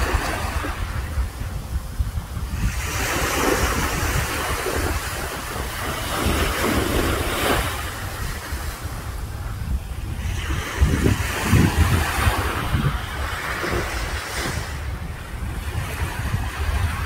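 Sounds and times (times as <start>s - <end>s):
waves washing on shore: 0.0s - 17.0s
wind buffeting microphone: 0.0s - 17.0s.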